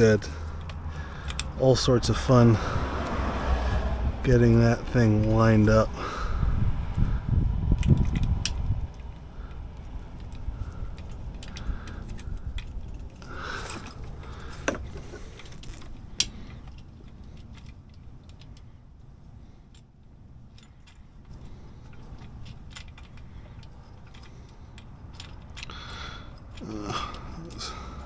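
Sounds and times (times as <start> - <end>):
light metallic clicks and rattles: 0.0 - 28.0.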